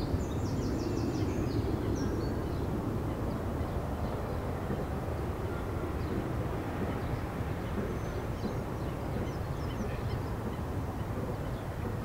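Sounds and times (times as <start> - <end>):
faint high bird calls: 0.0 - 12.0
low outdoor rumble: 0.0 - 12.0.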